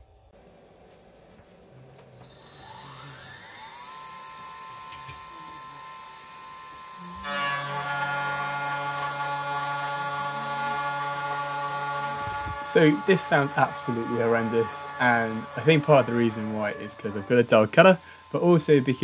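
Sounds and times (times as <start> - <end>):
spindle motor whine: 2.0 - 19.0
end mill cutting steel: 2.2 - 19.0.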